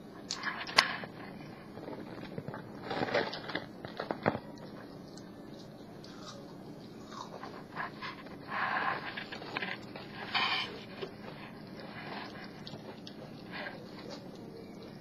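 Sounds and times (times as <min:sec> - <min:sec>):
dog crunching food: 0:01.8 - 0:14.4.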